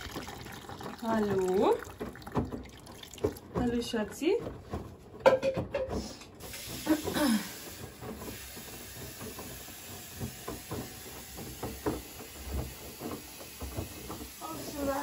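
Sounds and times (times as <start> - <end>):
water running into washing machine: 0.0 - 15.0.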